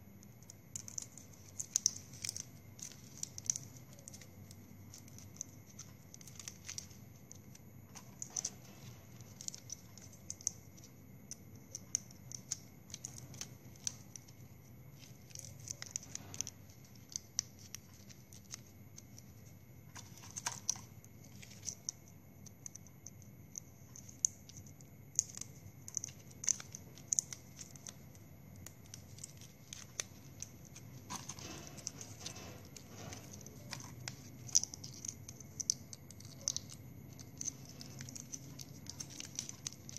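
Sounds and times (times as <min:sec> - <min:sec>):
plastic straws clicking and rustling: 0:00.1 - 0:39.9.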